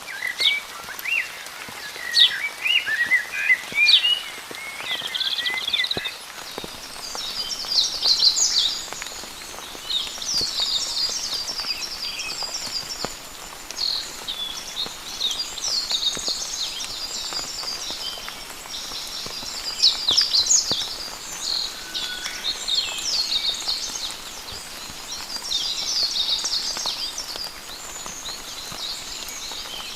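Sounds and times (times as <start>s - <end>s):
light rain hiss: 0.0s - 29.9s
rain drops: 0.0s - 29.9s
songbirds chirping and trilling: 0.0s - 29.9s.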